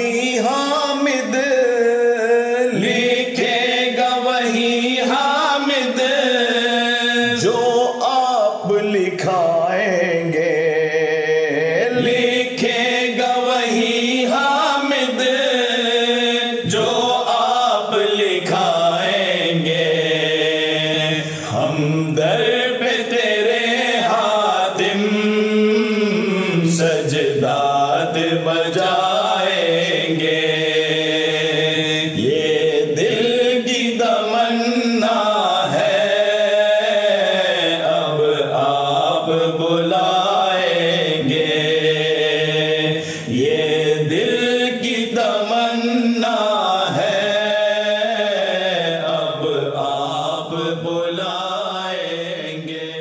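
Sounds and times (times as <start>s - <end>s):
men chanting unaccompanied: 0.0s - 53.0s.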